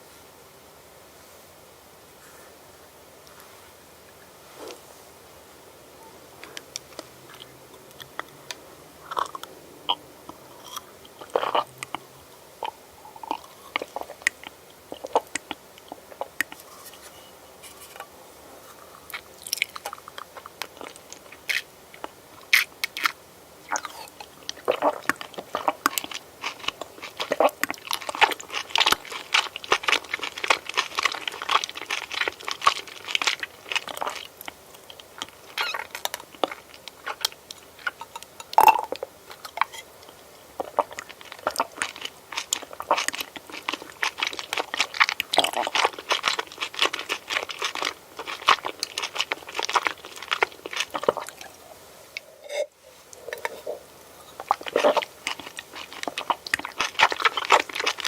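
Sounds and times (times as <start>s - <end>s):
person chewing crunchy food: 9.0s - 51.6s, 52.2s - 58.0s.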